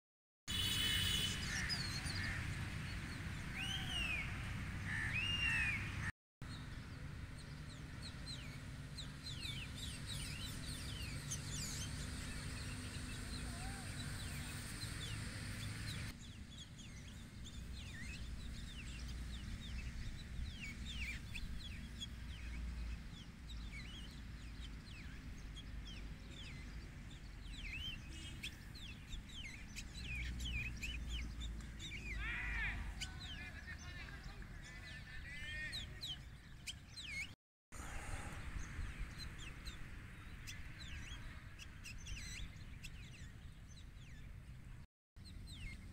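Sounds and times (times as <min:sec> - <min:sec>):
birds chirping and calling: 0:00.5 - 0:45.9.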